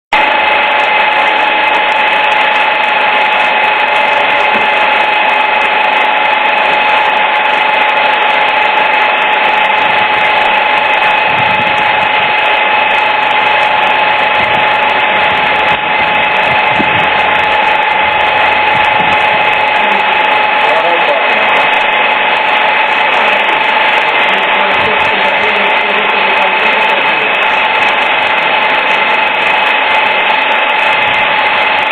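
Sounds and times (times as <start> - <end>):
electric massager motor whining: 0.2 - 31.9.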